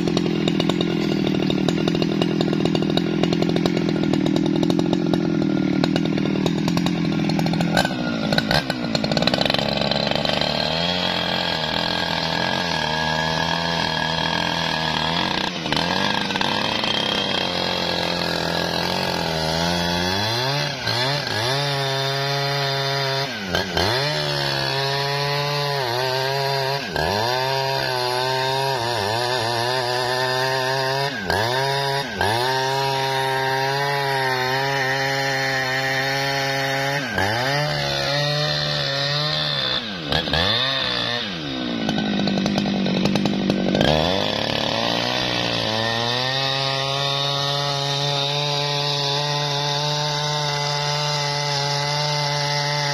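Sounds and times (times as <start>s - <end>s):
chainsaw cutting tree trunk: 0.0s - 52.9s.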